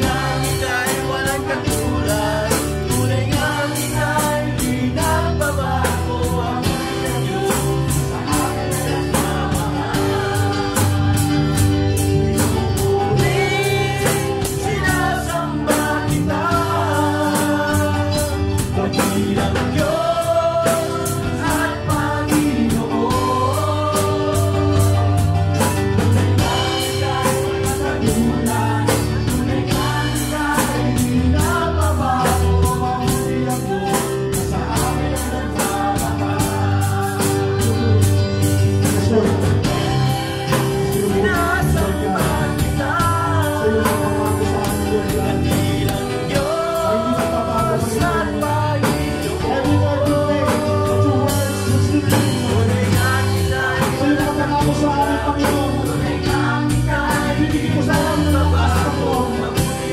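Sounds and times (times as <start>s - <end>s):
drum kit beat: 0.0s - 59.9s
guitar: 0.0s - 59.9s
voices singing: 0.0s - 59.9s.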